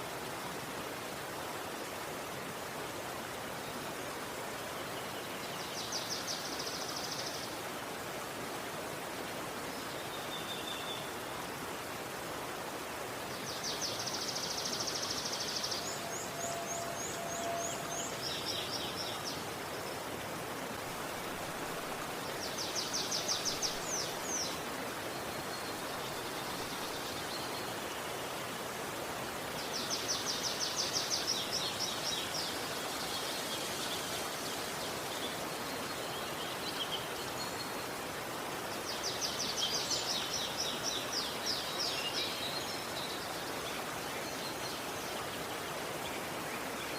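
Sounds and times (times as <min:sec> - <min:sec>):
flowing river water: 0:00.0 - 0:46.9.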